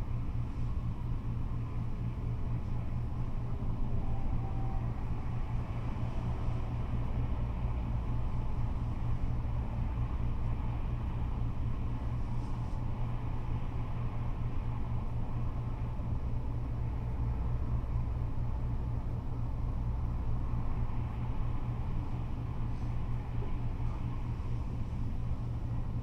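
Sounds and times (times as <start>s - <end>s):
freeway traffic rumble: 0.0s - 26.0s.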